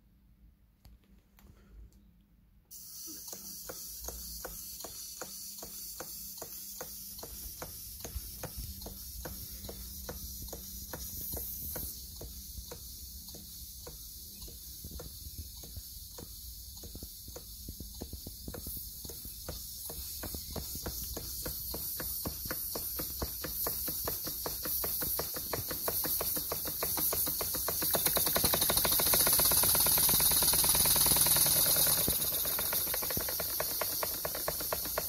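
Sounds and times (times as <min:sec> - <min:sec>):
steady high steam hiss: 0:02.7 - 0:35.0
steam engine exhaust beating: 0:02.8 - 0:35.0.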